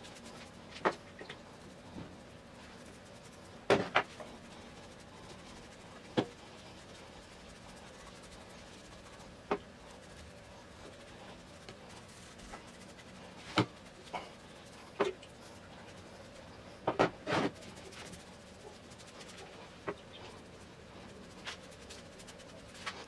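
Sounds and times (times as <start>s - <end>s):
faint brushing on wood: 0.0s - 23.0s.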